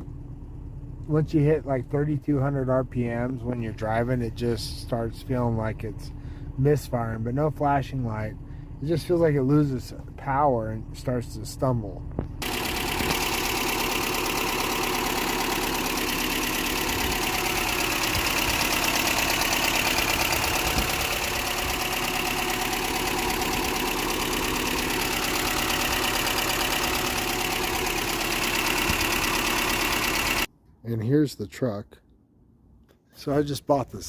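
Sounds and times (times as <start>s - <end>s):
engine idling: 0.0s - 30.5s.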